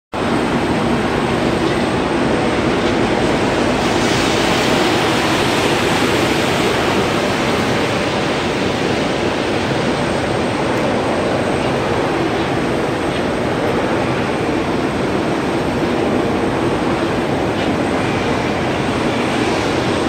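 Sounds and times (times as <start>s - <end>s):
heavy rain falling: 0.2s - 20.0s.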